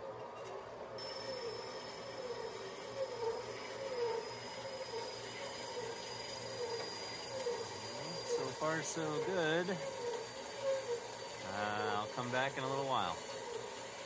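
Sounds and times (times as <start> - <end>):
bandsaw cutting metal: 1.0 - 14.0.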